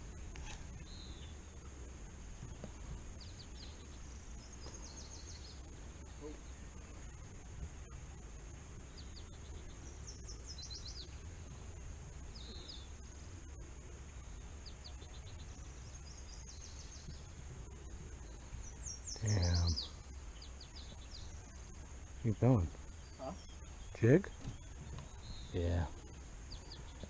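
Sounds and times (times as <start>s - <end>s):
faint low rumble: 0.0s - 27.0s
songbirds chirping: 0.0s - 27.0s.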